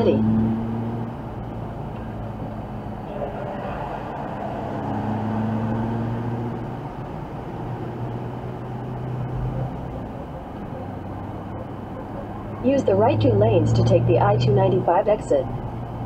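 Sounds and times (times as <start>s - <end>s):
car engine droning: 0.0s - 16.0s
tyre and road noise: 0.0s - 16.0s.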